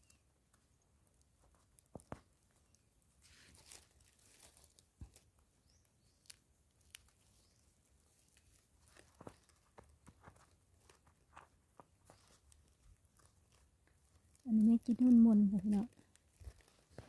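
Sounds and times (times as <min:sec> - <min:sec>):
fingers scratching dry soil: 0:00.0 - 0:17.0.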